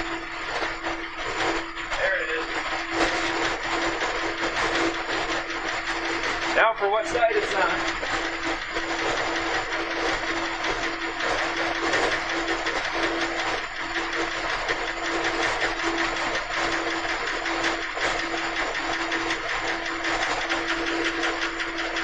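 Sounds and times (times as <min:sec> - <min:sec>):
engine idling: 0:00.0 - 0:22.0
engine lifter ticking: 0:00.2 - 0:22.0.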